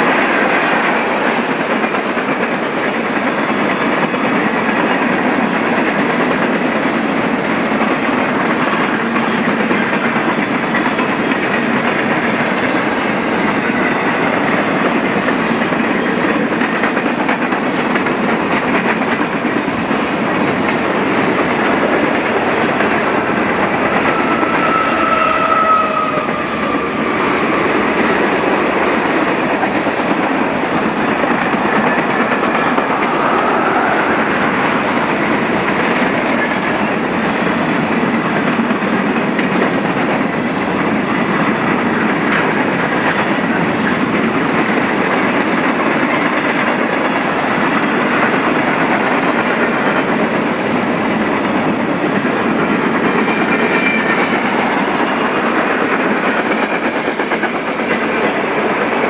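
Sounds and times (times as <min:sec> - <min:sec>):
steel wheels rumbling on rails: 0:00.0 - 0:59.0.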